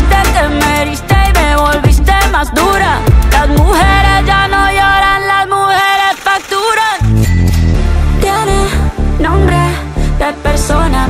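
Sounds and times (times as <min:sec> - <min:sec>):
pop song with deep bass beat: 0:00.0 - 0:11.0.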